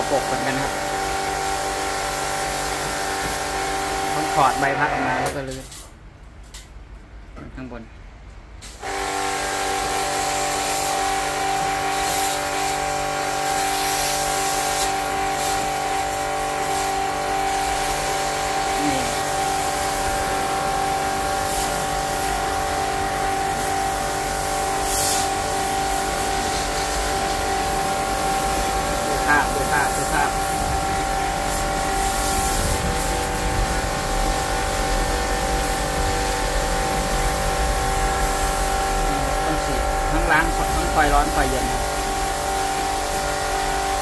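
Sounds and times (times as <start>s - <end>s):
pressure washer pump whining: 0.0s - 5.6s, 8.8s - 44.0s
water jet spraying: 0.0s - 5.7s, 8.9s - 44.0s.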